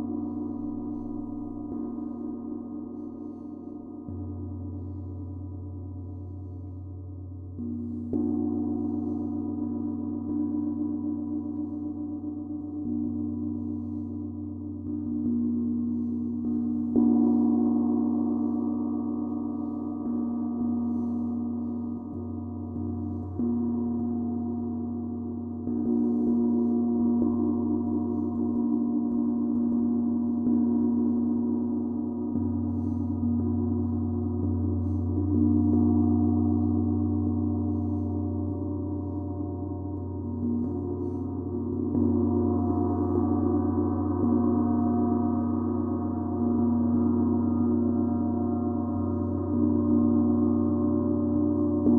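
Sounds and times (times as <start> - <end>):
deep ringing drone of struck instrument: 0.0 - 51.9.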